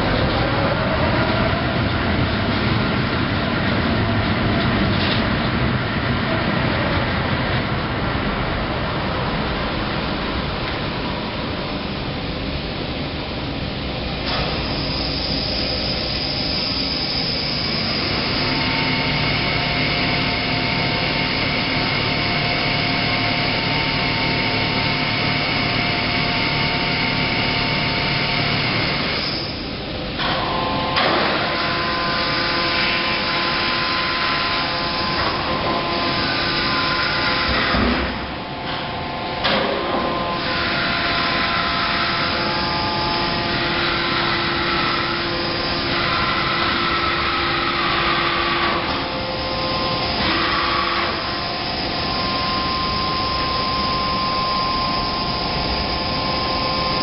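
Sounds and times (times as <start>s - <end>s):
crane electric drives whining: 7.9s - 57.0s
machine noise: 9.1s - 57.0s.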